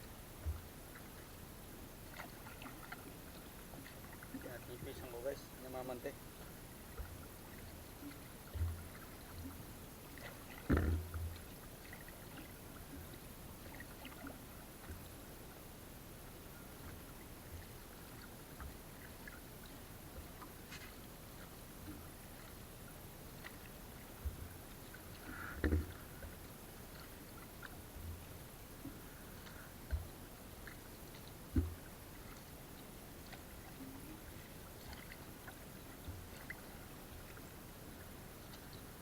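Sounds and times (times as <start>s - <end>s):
water sloshing and lapping: 0.0s - 39.0s.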